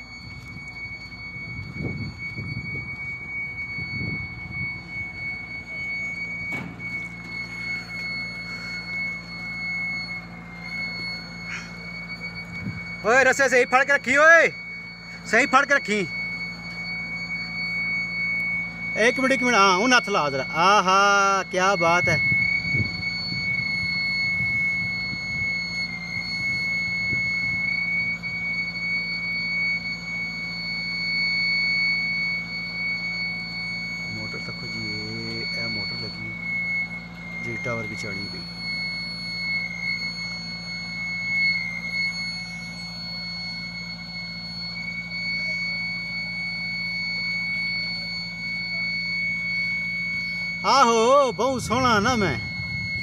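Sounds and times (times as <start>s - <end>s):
high-pitched machinery whine: 0.0s - 53.0s
low machinery hum: 0.0s - 53.0s.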